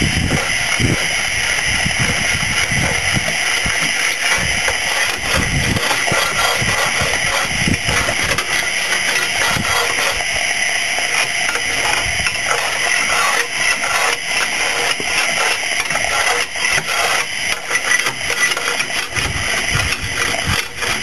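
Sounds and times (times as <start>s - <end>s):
fire iron scraping a grate: 0.0s - 21.0s
steady hiss: 0.0s - 21.0s.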